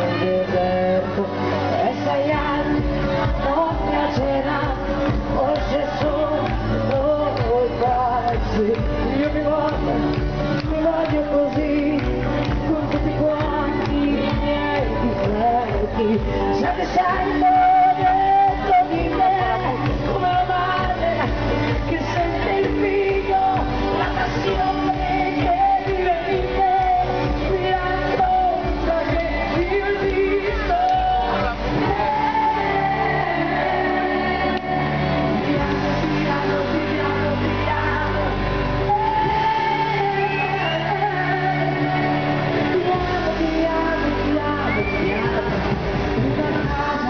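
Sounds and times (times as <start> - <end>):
bass: 0.0 - 47.0
woman singing into microphone: 0.0 - 47.0.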